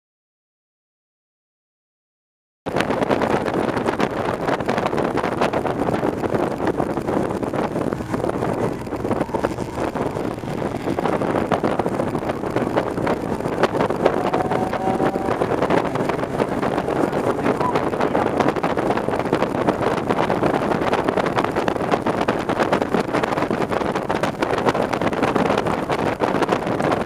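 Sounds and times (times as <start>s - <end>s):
race car engine drone in cabin: 2.8s - 27.0s.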